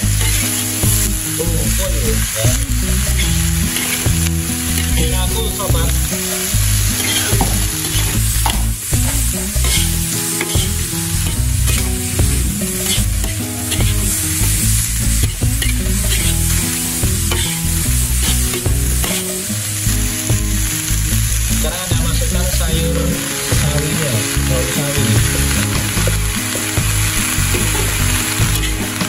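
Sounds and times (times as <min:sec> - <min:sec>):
metal spatula scraping wok: 0:00.0 - 0:24.2, 0:25.4 - 0:29.0
vegetables sizzling in wok: 0:00.0 - 0:29.0.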